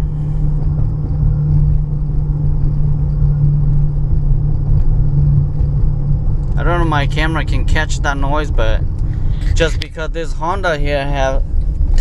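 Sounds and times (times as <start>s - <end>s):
road and tyre noise: 0.0s - 12.0s
steady low drone: 0.0s - 12.0s.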